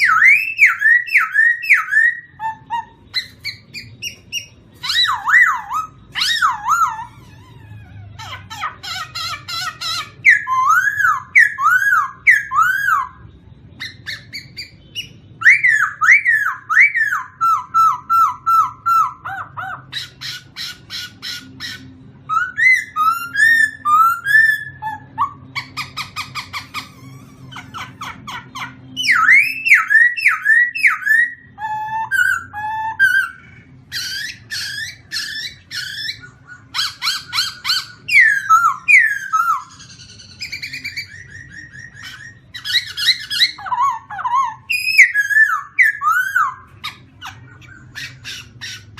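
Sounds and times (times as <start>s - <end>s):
faint low hum: 0.0s - 48.9s
songbird singing: 0.0s - 48.9s.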